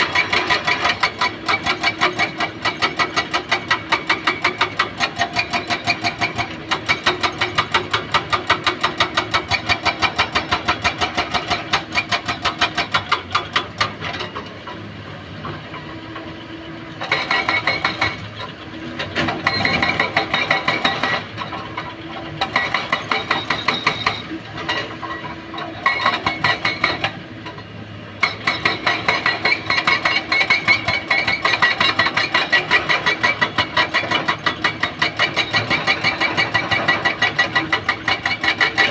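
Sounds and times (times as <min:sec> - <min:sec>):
excavator engine rhythmic clatter: 0:00.0 - 0:38.9.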